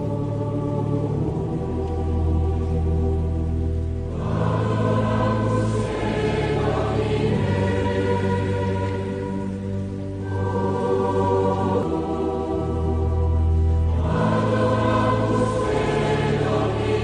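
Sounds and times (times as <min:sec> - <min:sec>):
choir singing held notes: 0:00.0 - 0:17.0
low sustained accompaniment: 0:00.0 - 0:17.0.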